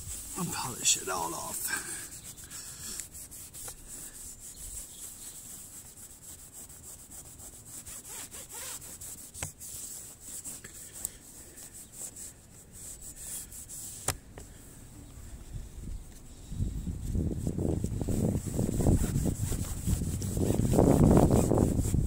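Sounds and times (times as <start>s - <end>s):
cloth scrubbing fibreglass surface: 0.0s - 14.2s, 17.0s - 22.0s.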